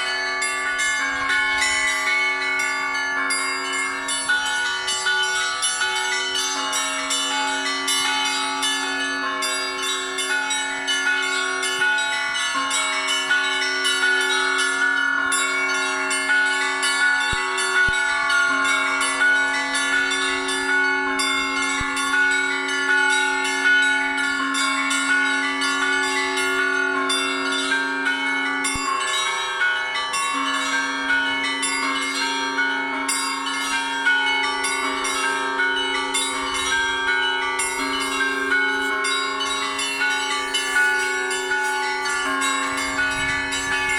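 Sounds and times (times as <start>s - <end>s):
hum of large bells: 0.0s - 43.9s
small bells struck rapidly: 0.0s - 43.9s.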